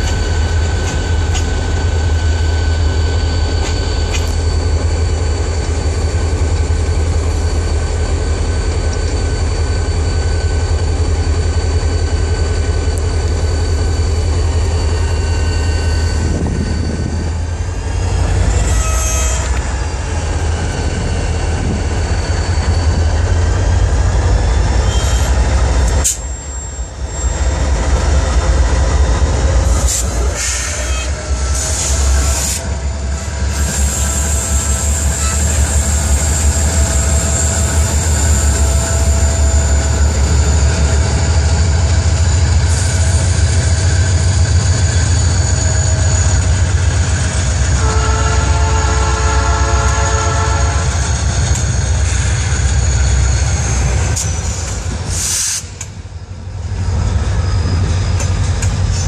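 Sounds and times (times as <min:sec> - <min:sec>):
diesel locomotive engine rumble: 0:00.0 - 0:59.0
high wheel squeal: 0:00.0 - 0:59.0
steel wheels rolling on rail: 0:00.0 - 0:59.0.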